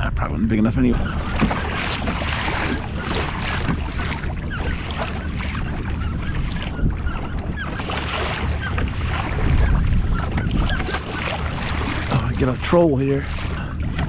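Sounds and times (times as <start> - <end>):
wind buffeting microphone: 0.0 - 14.0
water splashing against hull: 0.6 - 14.0.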